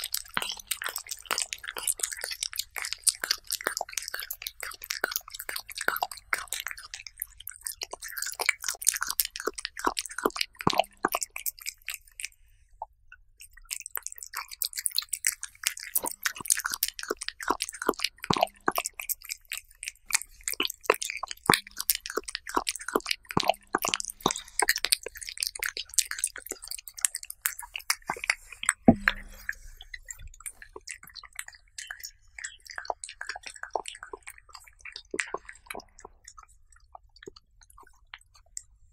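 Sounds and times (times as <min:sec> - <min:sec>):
cat chewing meat: 0:00.0 - 0:38.9.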